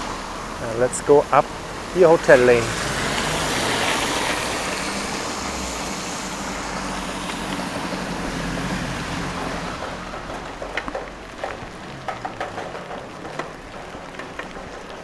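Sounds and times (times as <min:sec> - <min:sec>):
rain falling: 0:00.0 - 0:15.0
tyres hissing on wet road: 0:00.0 - 0:15.0.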